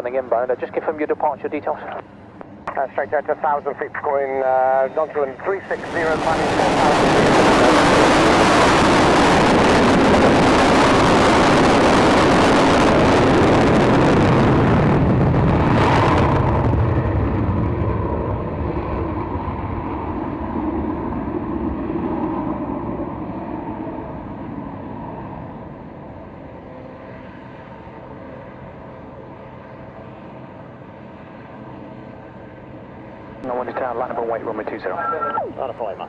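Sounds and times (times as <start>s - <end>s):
aircraft engine during takeoff: 0.0s - 36.0s.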